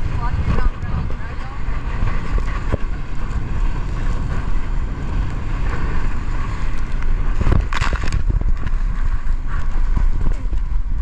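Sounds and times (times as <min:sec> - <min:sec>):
motorboat engine running: 0:00.0 - 0:11.0
water rushing under inner tube: 0:00.0 - 0:11.0
water splashing: 0:00.0 - 0:11.0
wind buffeting microphone: 0:00.0 - 0:11.0.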